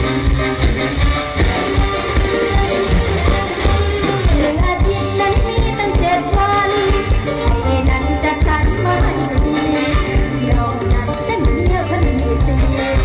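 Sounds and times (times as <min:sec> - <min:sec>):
band music over loudspeakers: 0:00.0 - 0:13.0
person singing: 0:02.2 - 0:13.0.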